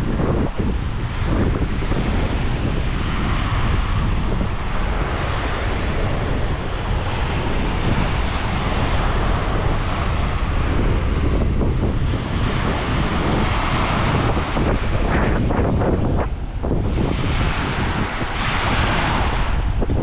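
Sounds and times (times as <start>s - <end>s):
sea surf washing onto beach: 0.0s - 20.0s
wind buffeting microphone: 0.0s - 20.0s.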